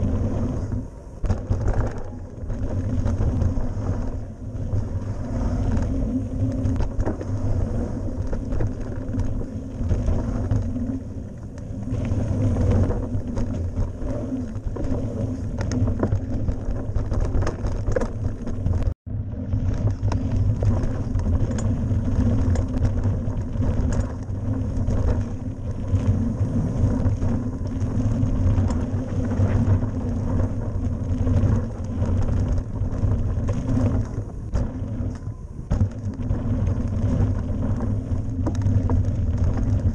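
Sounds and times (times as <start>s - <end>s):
bike knocks and rattles: 0.0s - 39.9s
tyres rumbling over dirt: 0.0s - 39.9s.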